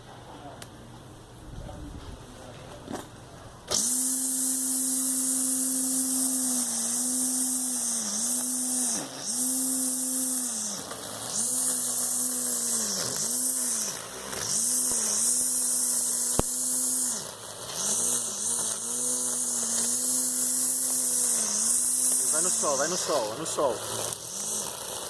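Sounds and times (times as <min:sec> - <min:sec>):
electric string trimmer whining: 0:02.8 - 0:25.0.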